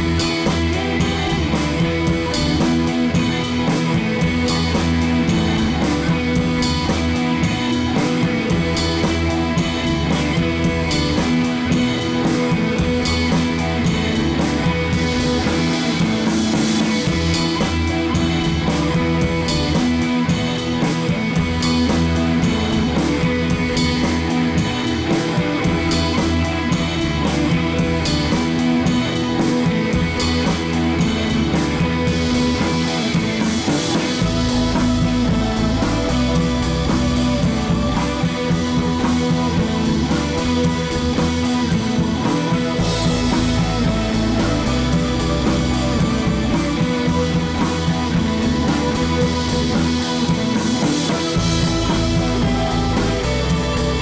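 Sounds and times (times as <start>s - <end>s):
rock music with guitar and drums: 0.0s - 54.0s.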